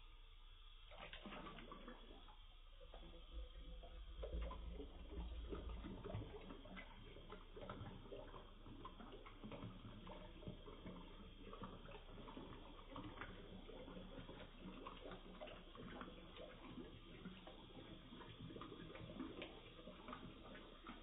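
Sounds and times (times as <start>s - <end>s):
water splashing at a sink: 0.0s - 21.0s.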